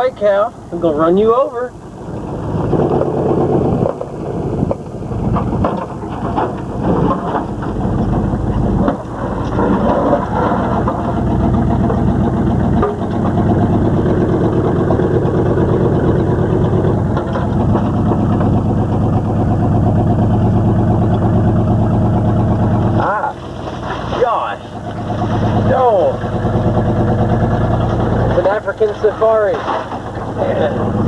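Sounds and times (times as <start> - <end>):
vehicle engine running: 0.0 - 31.0
knocks and rattles: 2.1 - 31.0.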